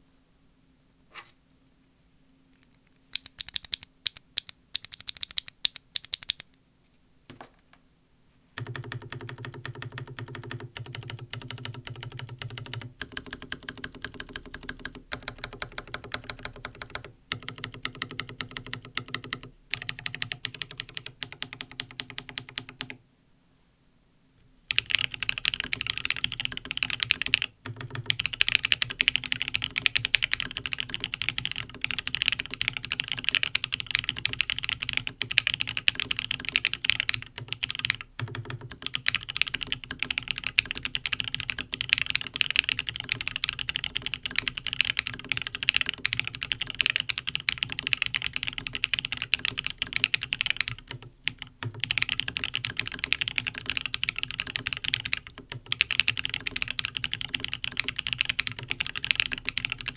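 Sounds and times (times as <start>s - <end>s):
fast typing on a keyboard: 3.1s - 6.5s, 8.6s - 23.0s, 24.7s - 59.9s.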